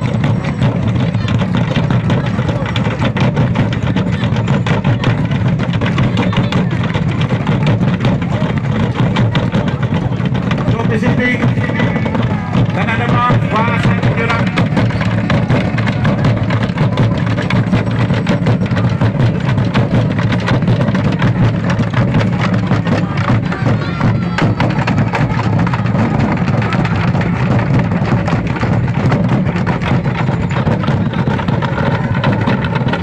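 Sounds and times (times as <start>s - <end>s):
live percussion drumming: 0.0s - 33.0s.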